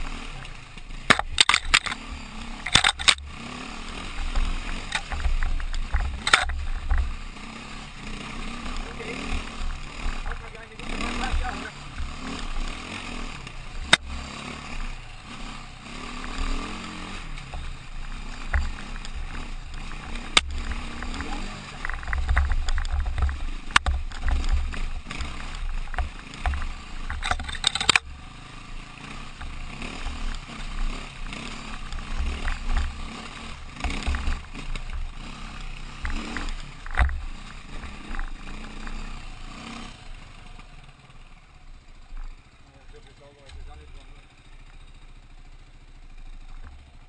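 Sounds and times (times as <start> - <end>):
motorcycle engine: 0.0 - 47.0
road noise: 0.0 - 47.0.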